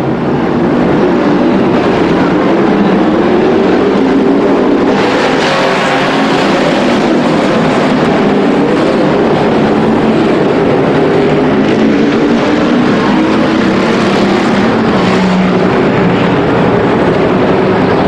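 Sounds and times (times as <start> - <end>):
race truck engines droning: 0.0 - 18.0.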